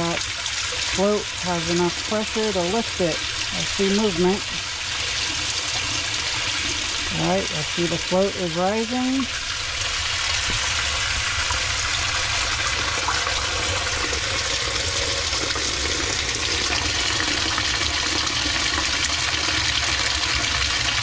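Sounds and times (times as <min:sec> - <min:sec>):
water pouring through pipe: 0:00.0 - 0:21.0.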